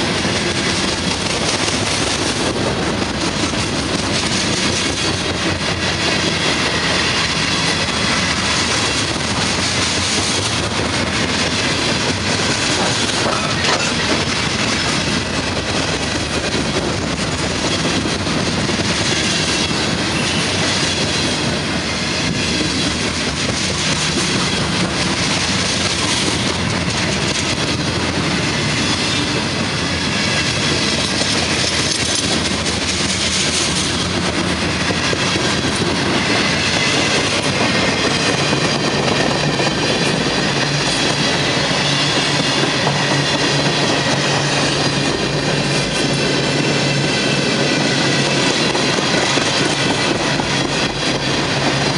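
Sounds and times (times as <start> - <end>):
clatter over rail joints: 0.0 - 51.9
train wheels rushing on rail: 0.0 - 51.9.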